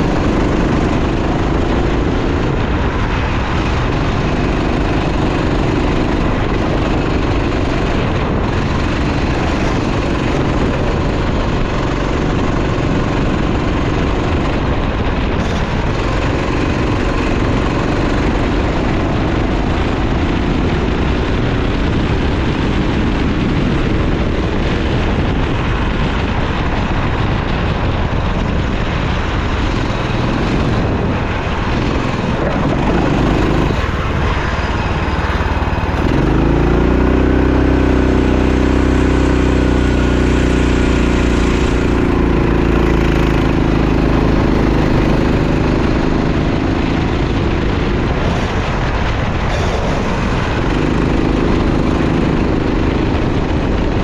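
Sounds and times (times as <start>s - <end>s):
racing kart engine running hard: 0.0s - 54.0s.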